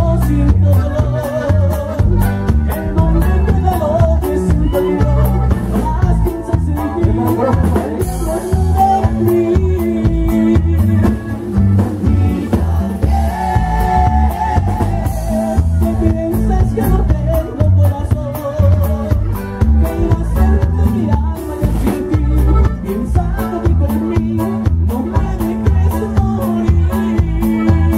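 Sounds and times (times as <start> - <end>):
heavy bass line: 0.0 - 27.9
held melody line: 0.0 - 27.9
person singing: 0.0 - 27.9
steady drum beat: 0.0 - 27.9.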